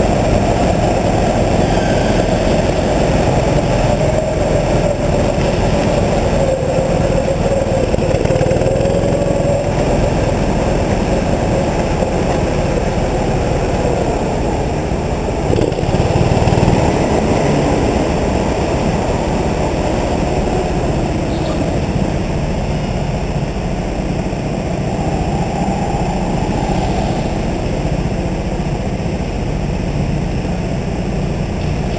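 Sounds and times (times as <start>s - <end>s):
go-kart motor running hard: 0.0s - 31.9s.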